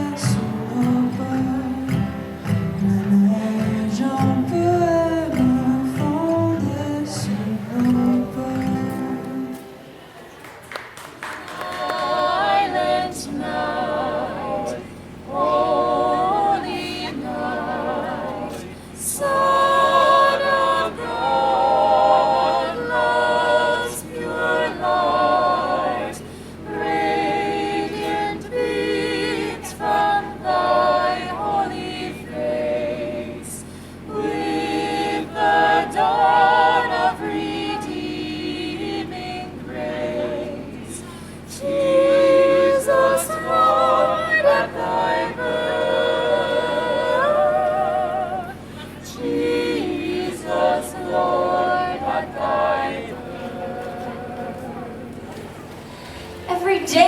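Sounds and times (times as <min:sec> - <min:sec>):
choir singing a cappella: 0:00.0 - 0:10.2, 0:11.2 - 0:57.0.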